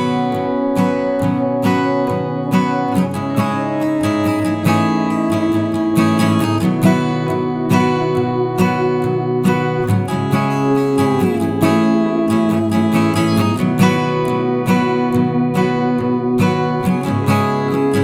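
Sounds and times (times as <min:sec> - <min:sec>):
acoustic guitar strummed and picked: 0:00.0 - 0:18.0.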